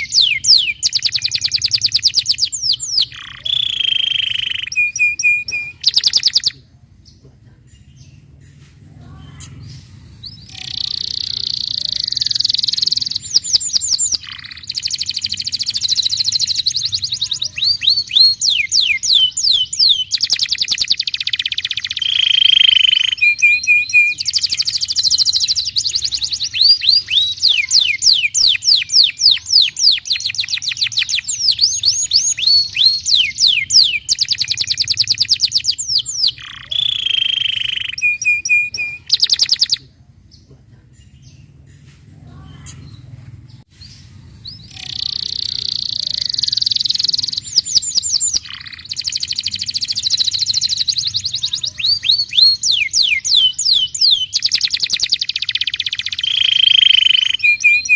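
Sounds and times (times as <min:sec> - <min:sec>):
canary singing: 0:00.0 - 0:06.6, 0:07.7 - 0:39.9, 0:42.3 - 0:57.9.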